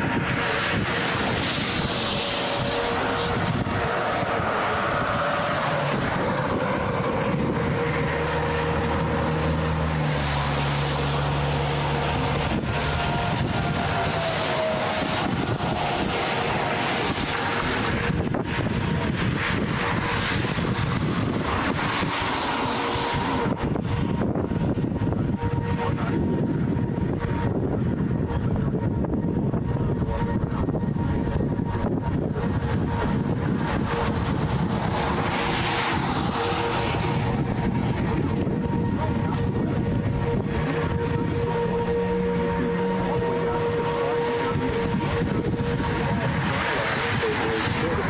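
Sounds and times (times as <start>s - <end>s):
storm wind on microphone: 0.0s - 48.0s.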